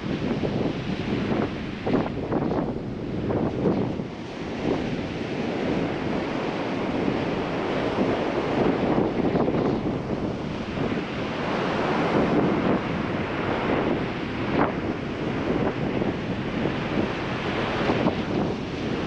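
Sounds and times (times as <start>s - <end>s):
ocean surf breaking on beach: 0.0s - 19.0s
wind buffeting microphone: 0.0s - 19.0s.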